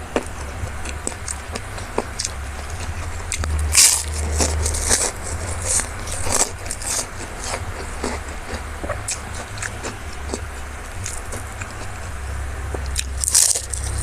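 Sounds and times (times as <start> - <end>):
person chewing crisp food: 0.0 - 14.0.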